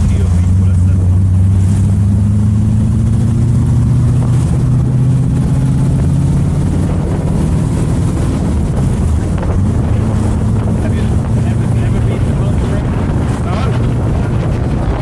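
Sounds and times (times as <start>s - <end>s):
car engine droning while driving: 0.0s - 15.0s
wind rush: 0.0s - 15.0s.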